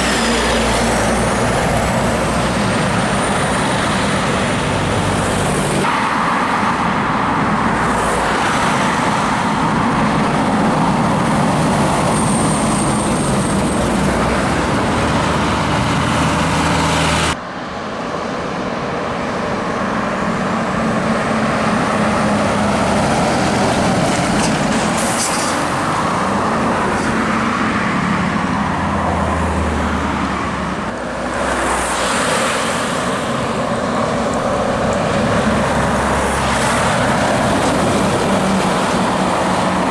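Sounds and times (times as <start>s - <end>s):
diesel truck engines: 0.0s - 39.9s
road noise: 0.0s - 39.9s.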